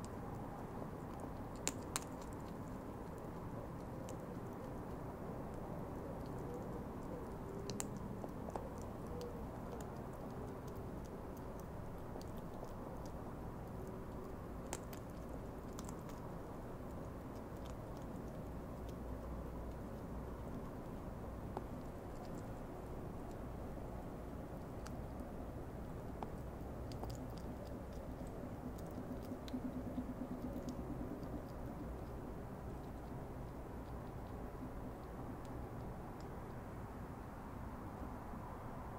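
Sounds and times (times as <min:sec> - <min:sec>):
hedgehog crunching food: 0:00.0 - 0:38.9
low background noise: 0:00.0 - 0:38.9
low background rumble: 0:00.0 - 0:38.9.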